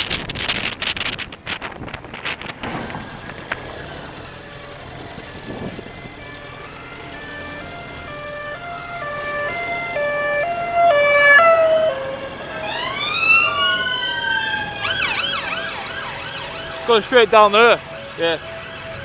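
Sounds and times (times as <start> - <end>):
police sirens wailing: 2.2 - 19.0.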